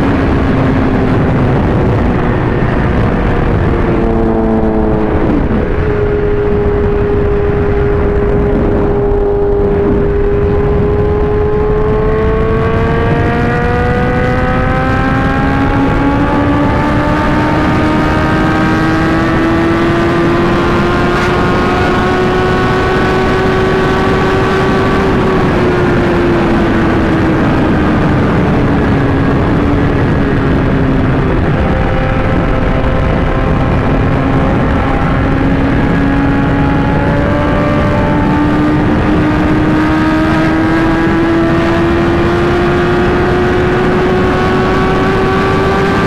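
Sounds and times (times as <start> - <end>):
motorcycle engines revving: 0.0 - 46.0
wind and road noise: 0.0 - 46.0.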